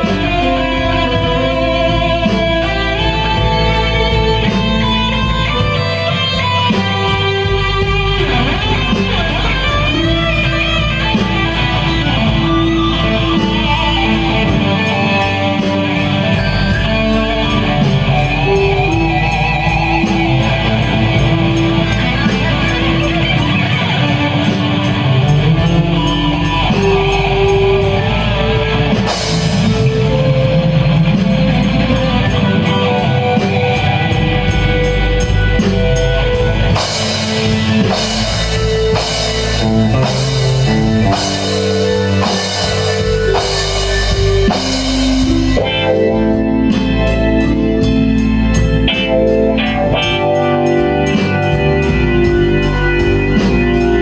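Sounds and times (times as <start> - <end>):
blues-rock band playing: 0.0 - 54.0
electric guitar lead: 0.0 - 54.0.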